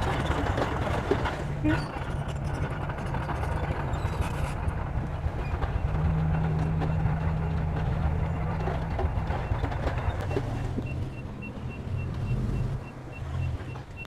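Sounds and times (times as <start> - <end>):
bulldozer diesel engine droning: 0.0 - 14.0.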